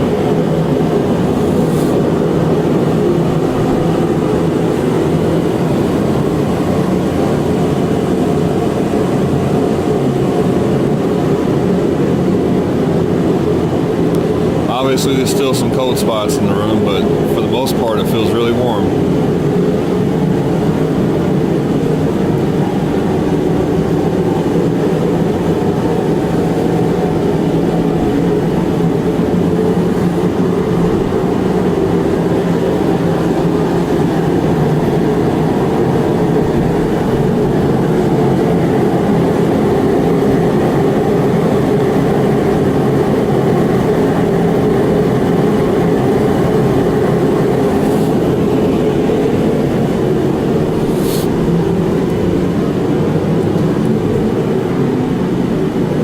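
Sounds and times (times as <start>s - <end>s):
forced-air heater running: 0.0s - 56.0s.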